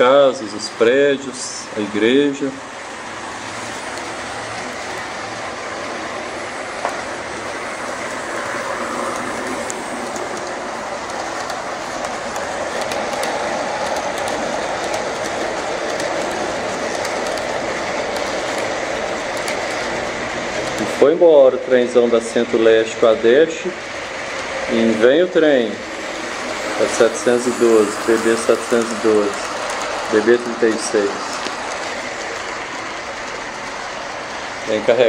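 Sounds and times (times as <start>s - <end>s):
model train wheels rumbling: 0.0s - 35.0s.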